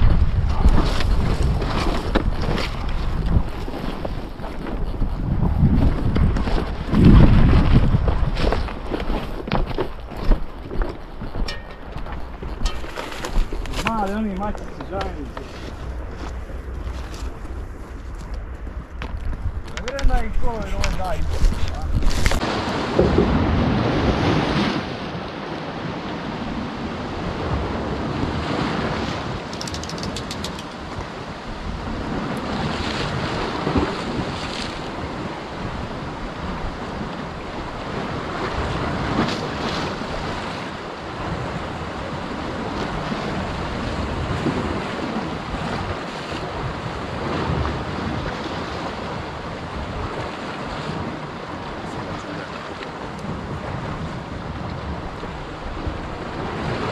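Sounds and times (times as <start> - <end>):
waves washing against rocky shore: 0.0 - 56.9
wind buffeting microphone: 0.0 - 56.9.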